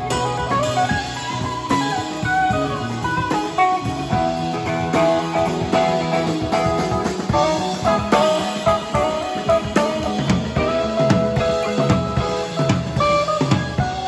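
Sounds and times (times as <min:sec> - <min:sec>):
drum kit: 0:00.0 - 0:14.0
electric bass: 0:00.0 - 0:14.0
sustained electric guitar notes: 0:00.0 - 0:14.0.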